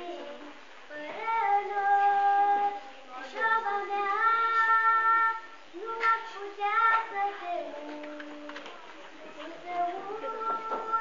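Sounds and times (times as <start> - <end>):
child singing: 0.0 - 11.0.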